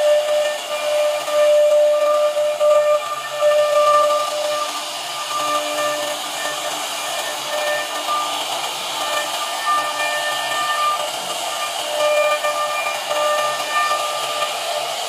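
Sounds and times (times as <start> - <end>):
cnc router carving wood: 0.0 - 15.0
pitched spindle whine: 0.0 - 15.0.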